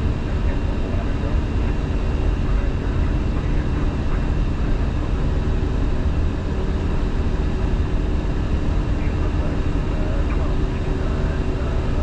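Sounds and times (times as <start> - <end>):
airflow and engine rumble: 0.0 - 12.0
faint steady whining tones: 0.0 - 12.0.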